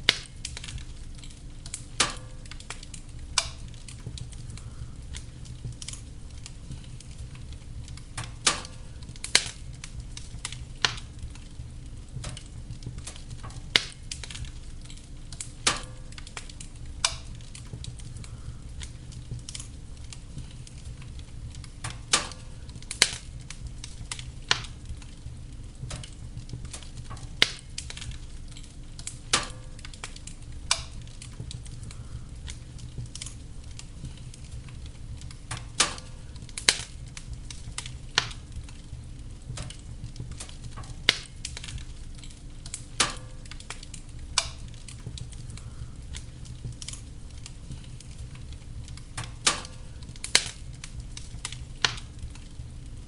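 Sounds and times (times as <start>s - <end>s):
low rumble of flames: 0.0s - 53.0s
wood fire crackling and popping: 0.0s - 53.0s.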